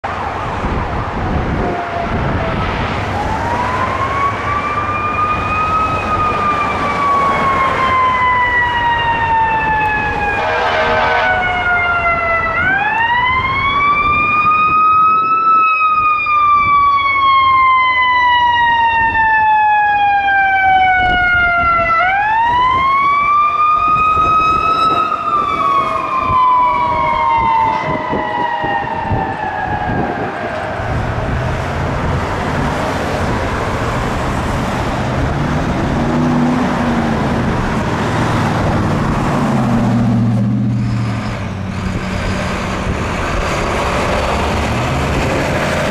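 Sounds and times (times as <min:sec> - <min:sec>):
fire engine siren wailing: 0:00.0 - 0:45.9
traffic and engine noise: 0:00.0 - 0:45.9.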